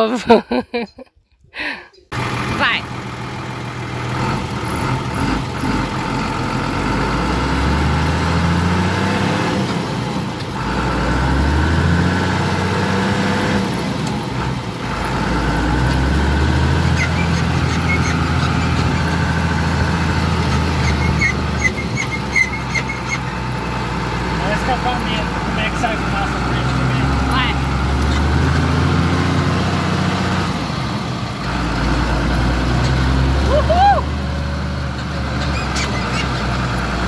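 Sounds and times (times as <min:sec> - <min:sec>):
tractor diesel engine revving: 0:02.1 - 0:37.0.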